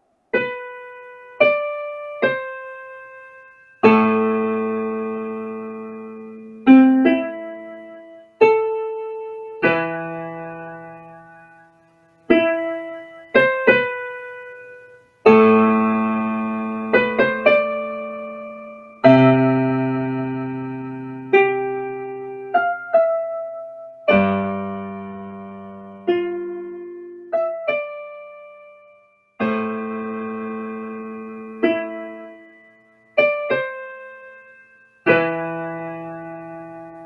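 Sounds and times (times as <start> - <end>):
slow solo piano: 0.0 - 37.0.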